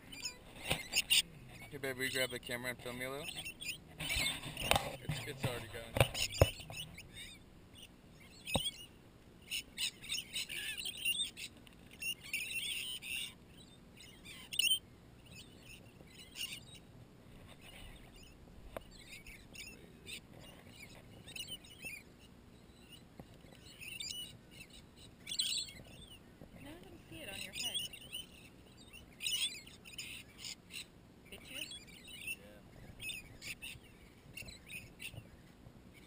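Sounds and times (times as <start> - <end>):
parrots calling: 0.0 - 16.9, 17.5 - 36.0.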